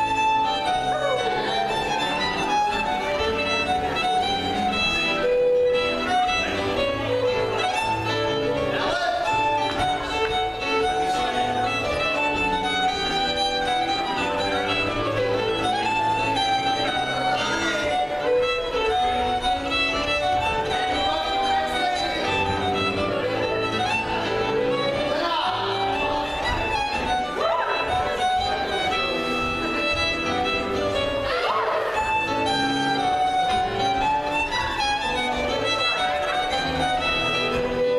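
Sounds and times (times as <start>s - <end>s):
fiddle playing melody: 0.0s - 37.9s
keyboard accompaniment: 0.0s - 37.9s.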